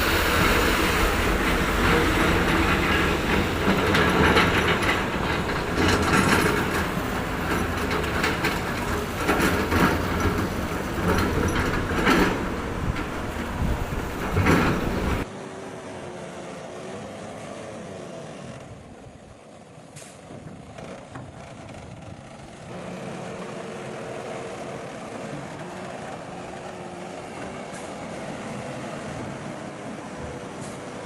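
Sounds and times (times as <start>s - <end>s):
loud rough machine noise: 0.0s - 15.2s, 20.7s - 31.0s
heavy machinery engines running: 0.0s - 31.0s.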